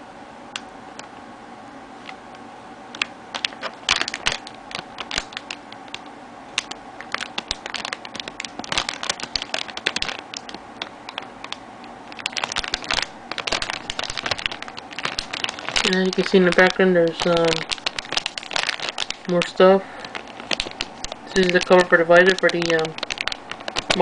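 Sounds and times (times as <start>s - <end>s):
plastic clicks and crinkles: 3.0s - 24.0s.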